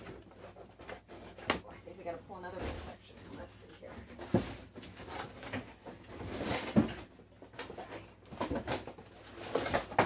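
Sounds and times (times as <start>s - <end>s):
cardboard rustling and scraping: 0.0s - 10.0s.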